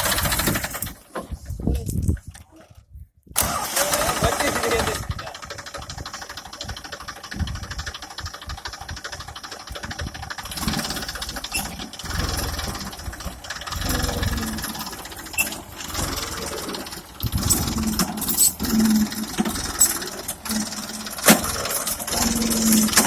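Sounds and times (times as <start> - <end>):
tractor engine chugging: 0.0 - 1.5, 3.4 - 23.0.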